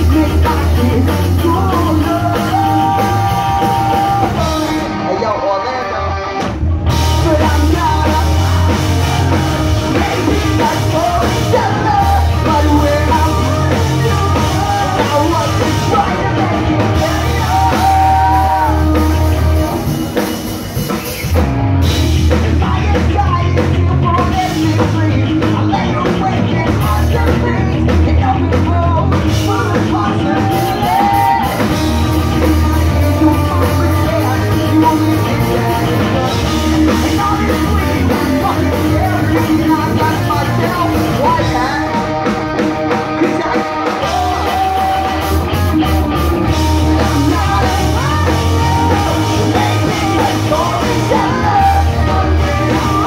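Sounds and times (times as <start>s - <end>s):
person singing: 0.0s - 20.9s, 22.3s - 53.0s
pop punk band playing live: 0.0s - 53.0s.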